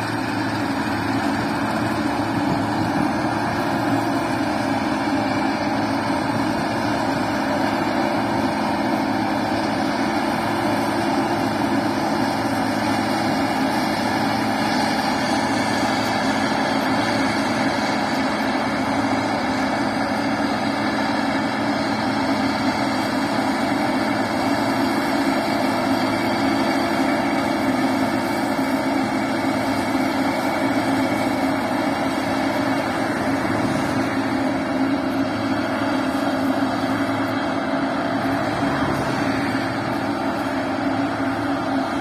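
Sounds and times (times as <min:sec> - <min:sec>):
combine harvester droning: 0:00.0 - 0:42.0.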